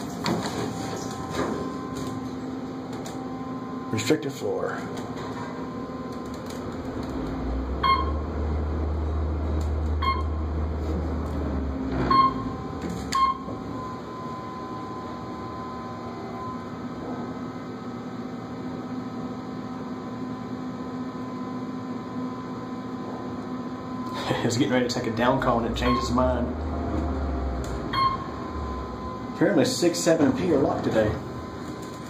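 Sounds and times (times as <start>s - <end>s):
elevator hum: 0.0s - 32.0s.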